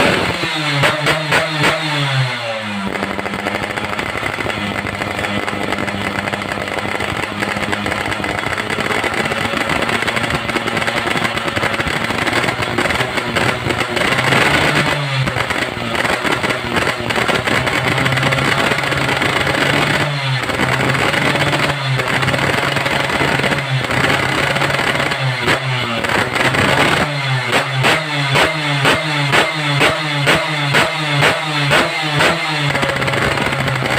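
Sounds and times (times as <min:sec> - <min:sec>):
engine revving: 0:00.0 - 0:33.9.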